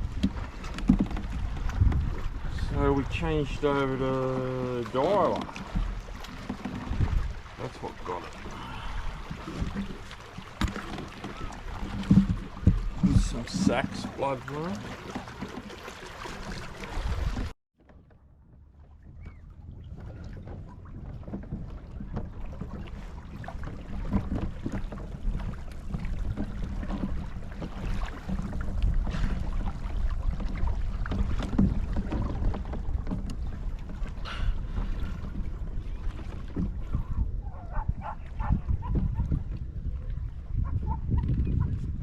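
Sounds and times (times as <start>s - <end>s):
wind on microphone: 0.0s - 4.5s, 5.2s - 14.2s, 16.4s - 17.5s, 19.0s - 42.0s
water splashing: 0.0s - 18.1s, 18.7s - 41.1s.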